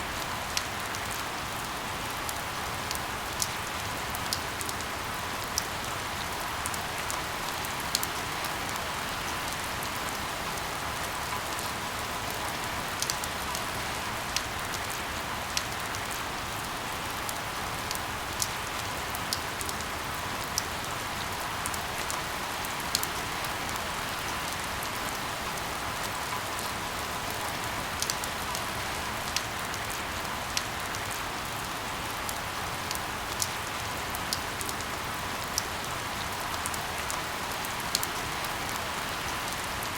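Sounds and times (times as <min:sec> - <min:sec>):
steady rain hiss: 0:00.0 - 0:39.9
raindrops ticking close by: 0:00.1 - 0:39.9.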